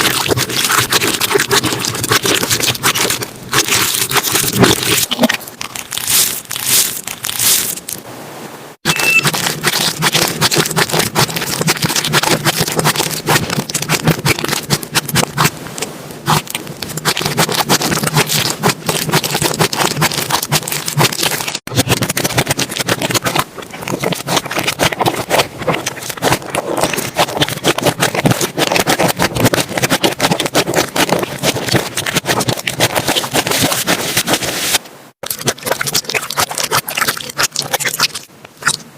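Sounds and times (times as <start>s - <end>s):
slime squished by hand: 0.0s - 7.9s, 9.1s - 15.6s, 16.2s - 38.8s.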